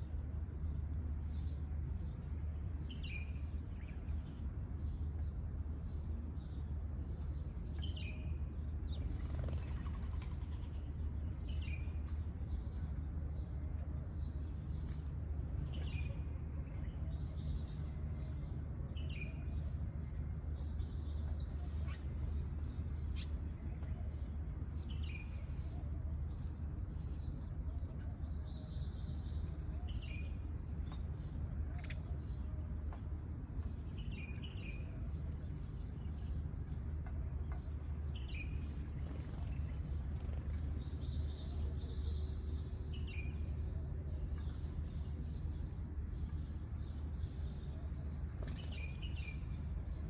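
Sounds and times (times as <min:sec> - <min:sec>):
sparrows chirping: 0:00.0 - 0:50.0.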